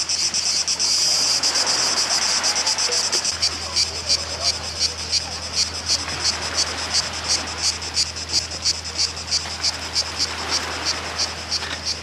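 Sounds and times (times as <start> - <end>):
cicadas chirping: 0.0 - 12.0.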